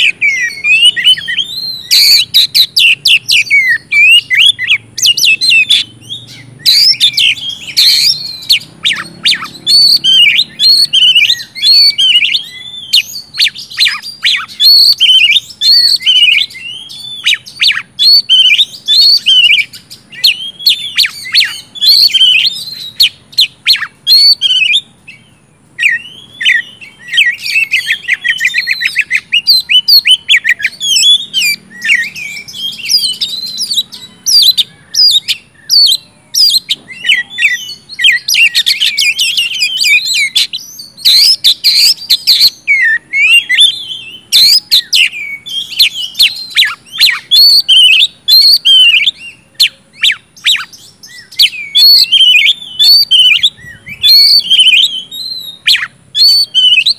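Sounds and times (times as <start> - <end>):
songbird whistles and trills: 0.0 - 56.9.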